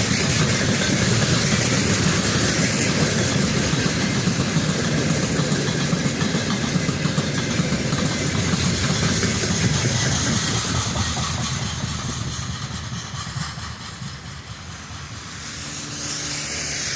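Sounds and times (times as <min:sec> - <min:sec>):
freight train wheels rumbling: 0:00.0 - 0:16.9.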